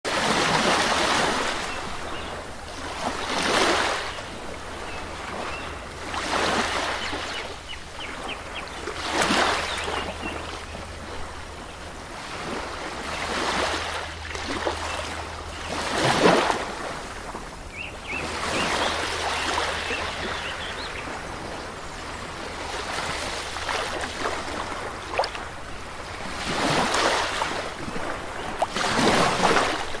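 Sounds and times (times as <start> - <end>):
waves washing onto a beach: 0.1 - 30.0.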